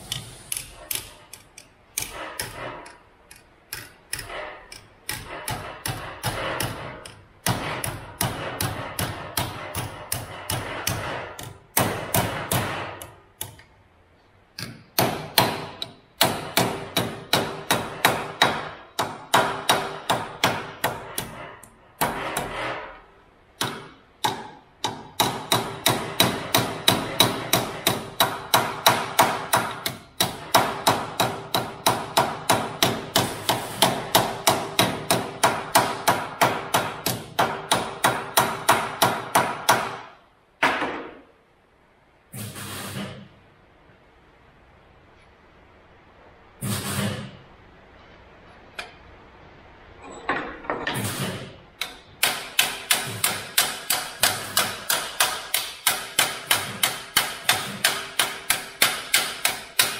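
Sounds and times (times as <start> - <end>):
hammer striking steel: 0.0 - 13.7, 14.6 - 41.3, 50.3 - 59.9.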